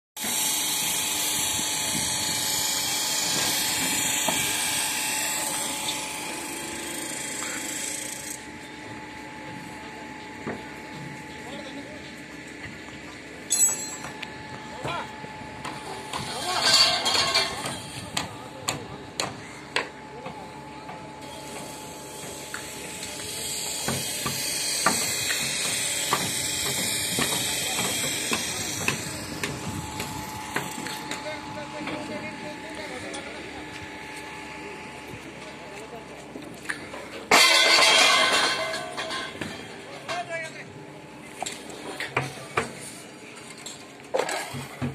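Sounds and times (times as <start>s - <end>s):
construction machinery whining: 0.2s - 42.5s.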